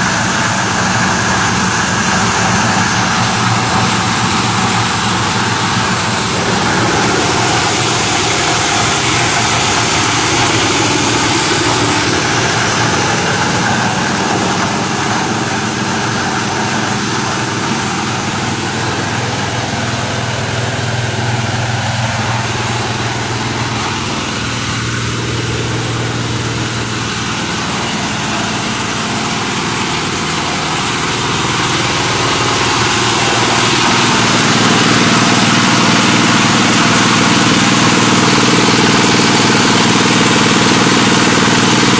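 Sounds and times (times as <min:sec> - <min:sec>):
plastic shredder machine droning: 0:00.0 - 0:41.9.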